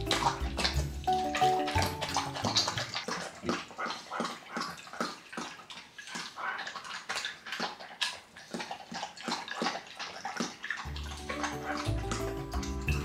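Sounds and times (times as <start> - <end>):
dog lapping and slurping: 0.0 - 13.0.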